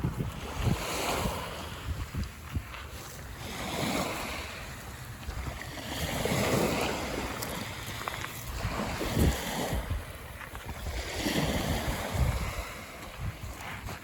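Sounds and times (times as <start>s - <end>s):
small waves washing onto shore: 0.0s - 14.0s
wind buffeting microphone: 0.0s - 14.0s.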